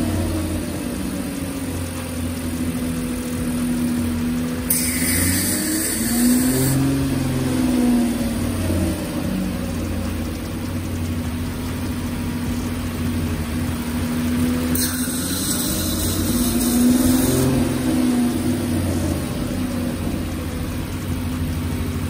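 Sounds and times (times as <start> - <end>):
car engine running: 0.0 - 22.0
hiss: 0.0 - 22.0.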